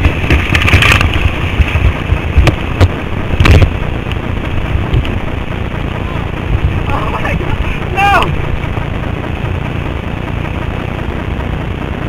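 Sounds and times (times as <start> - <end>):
whitewater rapids rushing: 0.0 - 10.6
water splashing against raft: 0.0 - 11.6.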